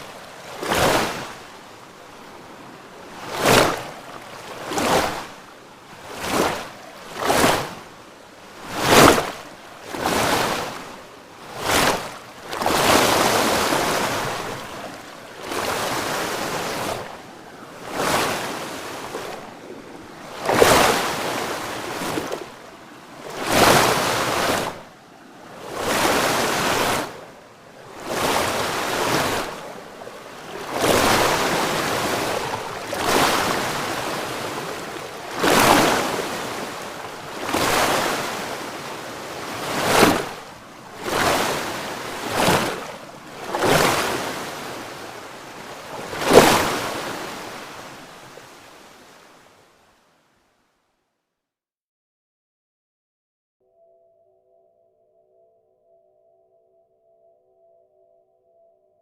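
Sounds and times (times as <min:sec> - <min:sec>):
waves washing in: 0:00.0 - 0:50.0.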